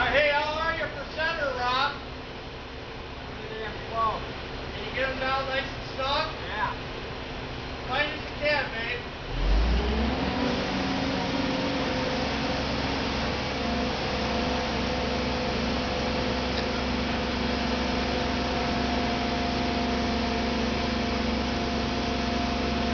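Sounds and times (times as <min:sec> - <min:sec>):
engine humming: 0:00.0 - 0:22.9.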